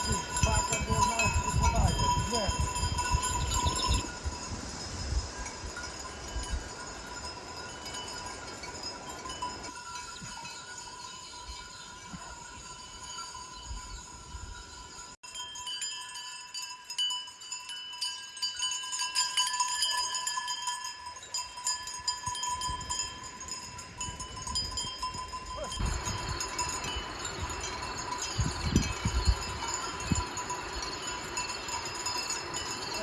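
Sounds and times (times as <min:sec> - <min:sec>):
sheep bells clinking: 0:00.0 - 0:33.0.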